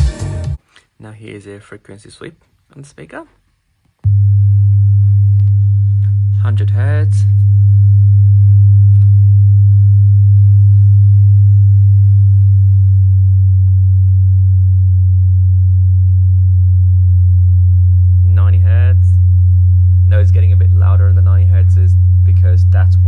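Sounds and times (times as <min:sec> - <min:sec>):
loud sine test tone: 0:04.0 - 0:23.0.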